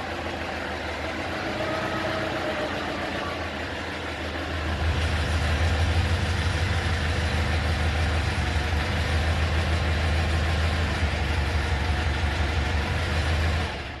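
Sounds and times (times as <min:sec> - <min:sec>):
forklift engine idling: 0:00.0 - 0:14.0.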